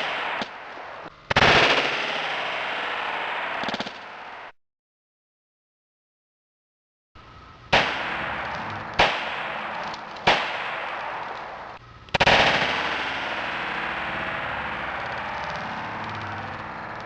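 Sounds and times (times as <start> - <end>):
pistol shots echoing: 0.0 - 4.5, 7.7 - 17.0.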